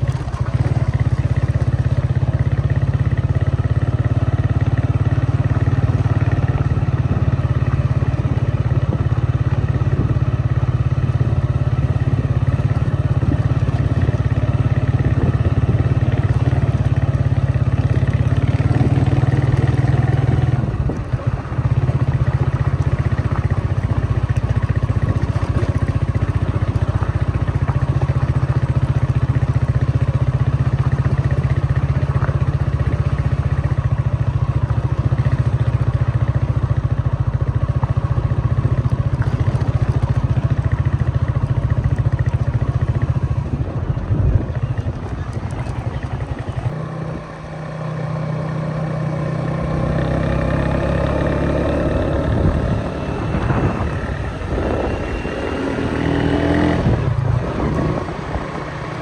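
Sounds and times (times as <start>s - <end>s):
road vehicle low rumble: 0.0s - 59.0s.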